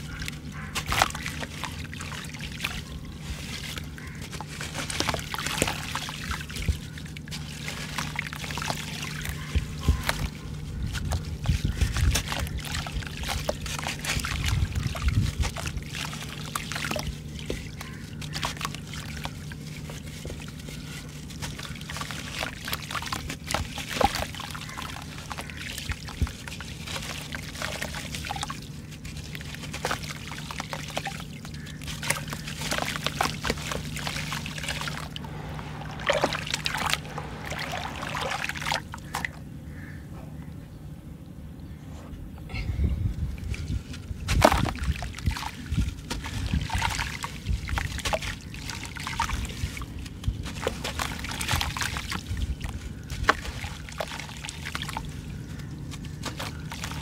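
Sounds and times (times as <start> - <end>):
grit splashing into muddy water: 0.0 - 39.5, 43.4 - 57.0.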